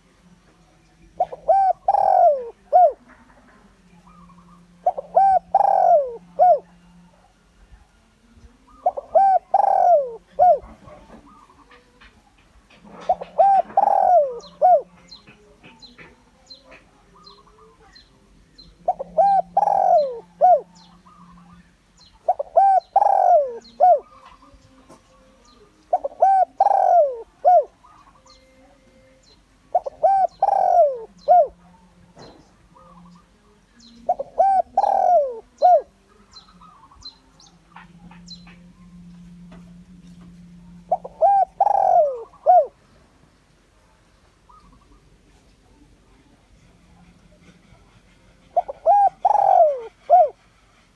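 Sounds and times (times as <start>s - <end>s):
dove cooing: 1.1s - 7.4s, 8.6s - 43.1s, 46.5s - 50.9s.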